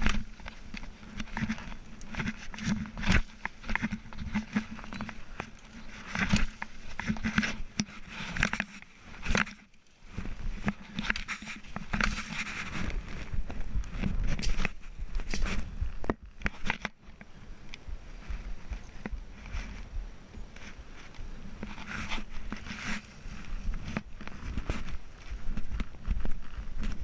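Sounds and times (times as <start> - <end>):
leaves and stems rustling: 0.0 - 27.0.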